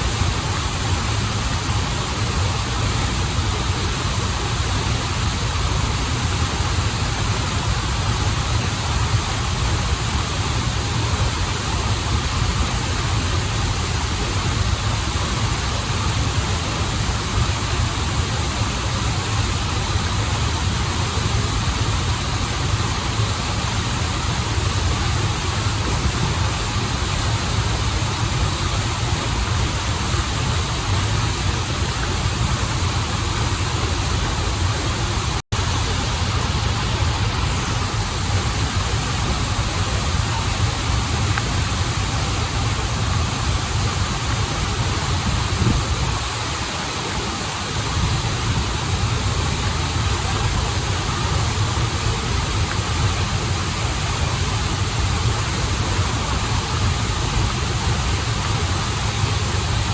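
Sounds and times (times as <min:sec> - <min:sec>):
stream and waterfall rushing: 0:00.0 - 0:59.9.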